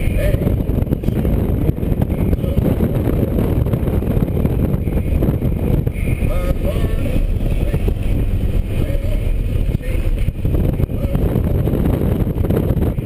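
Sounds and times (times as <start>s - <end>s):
car engine running under load: 0.0s - 13.0s
road and wind noise: 0.0s - 13.0s.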